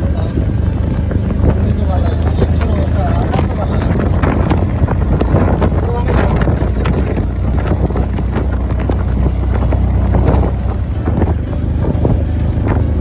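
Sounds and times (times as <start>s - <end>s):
rattling: 0.0s - 13.0s
rickshaw engine rumble: 0.0s - 13.0s
wind buffeting microphone: 0.0s - 13.0s.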